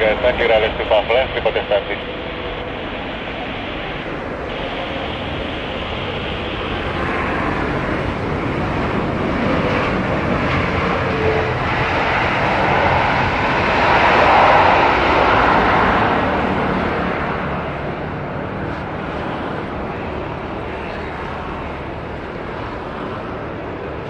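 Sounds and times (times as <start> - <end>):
jet airliner engines passing: 0.0 - 24.0.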